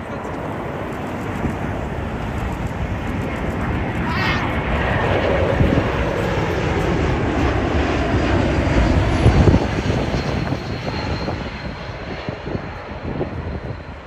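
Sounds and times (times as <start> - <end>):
jet aircraft rumble overhead: 0.0 - 14.0.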